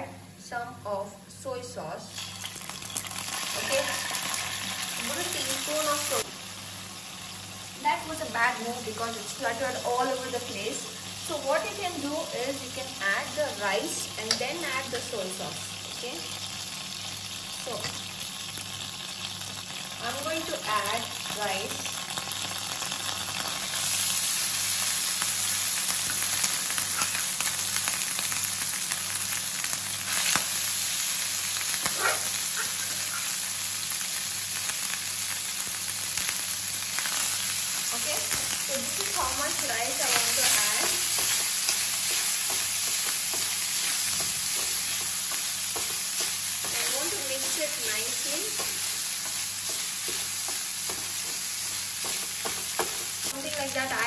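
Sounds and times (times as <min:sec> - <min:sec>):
rice sizzling in pan: 0:02.1 - 0:54.0.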